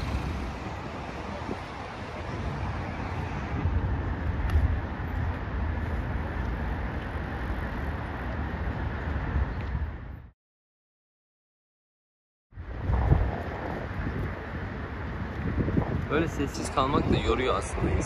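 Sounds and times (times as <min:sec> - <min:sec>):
steady traffic noise: 0:00.0 - 0:10.3, 0:12.6 - 0:18.0
wind rumbling on microphone: 0:00.0 - 0:10.3, 0:12.5 - 0:18.0.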